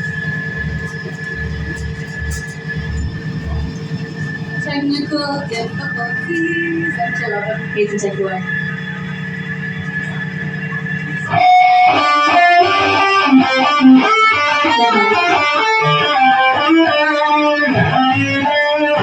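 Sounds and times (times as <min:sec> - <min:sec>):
amplifier hum: 0:00.0 - 0:19.0
electric guitar fast picked notes: 0:00.0 - 0:19.0.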